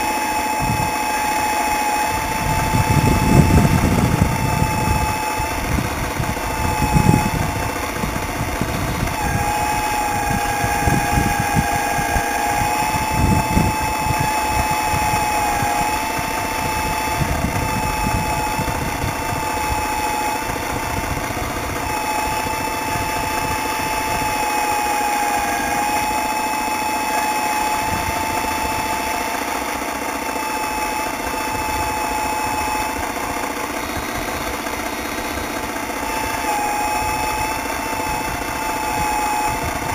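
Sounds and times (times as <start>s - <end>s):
pump motor whining: 0.0s - 39.9s.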